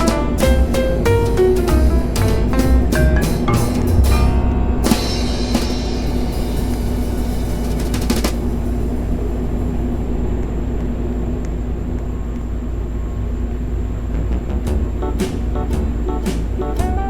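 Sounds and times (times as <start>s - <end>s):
low mechanical hum and rumble: 0.0s - 17.0s.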